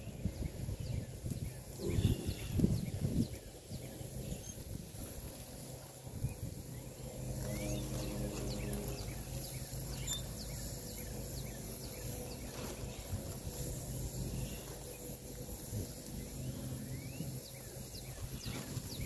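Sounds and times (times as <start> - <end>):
birds chirping: 0.0 - 19.0
low steady hum: 0.0 - 19.0.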